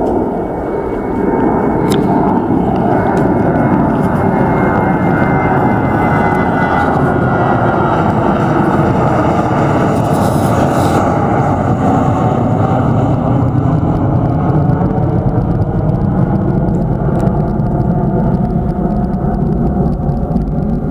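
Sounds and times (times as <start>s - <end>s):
jet airliner engines roaring: 0.0s - 20.9s.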